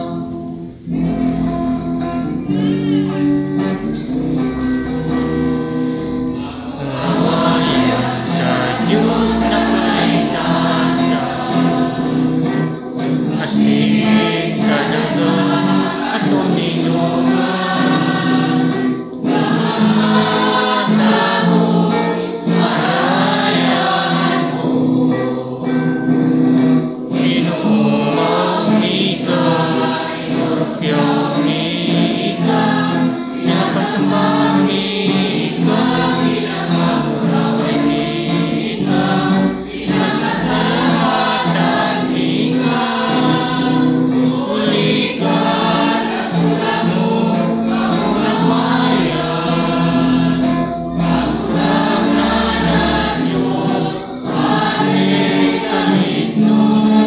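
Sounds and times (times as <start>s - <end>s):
church choir singing a hymn: 0.0s - 57.0s.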